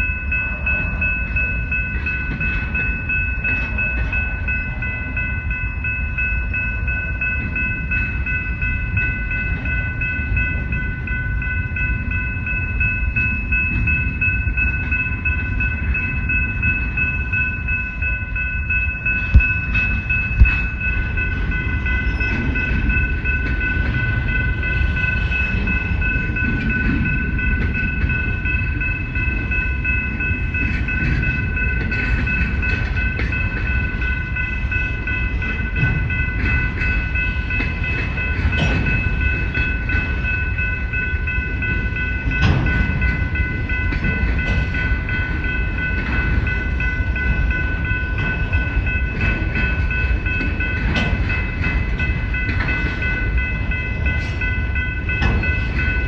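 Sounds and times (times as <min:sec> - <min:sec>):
freight train rumbling past: 0:00.0 - 0:56.0
high steady tone: 0:00.0 - 0:56.0.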